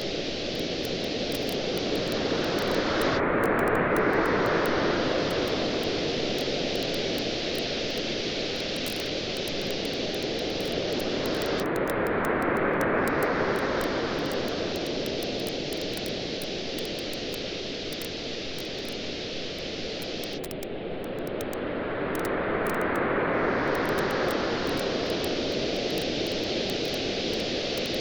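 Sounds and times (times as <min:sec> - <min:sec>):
campfire crackling: 0:00.0 - 0:21.6, 0:23.7 - 0:28.0.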